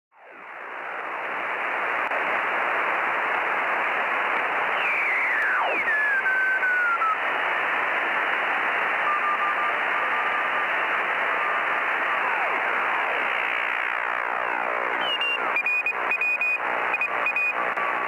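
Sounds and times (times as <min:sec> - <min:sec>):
shortwave radio hiss: 0:00.2 - 0:18.0.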